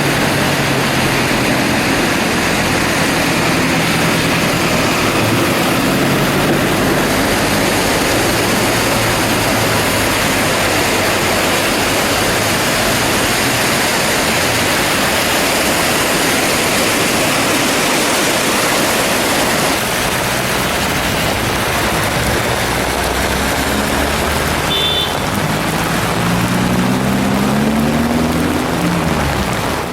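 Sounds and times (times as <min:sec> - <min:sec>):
heavy rain and running water: 0:00.0 - 0:29.9
vehicle engine humming: 0:00.0 - 0:29.9.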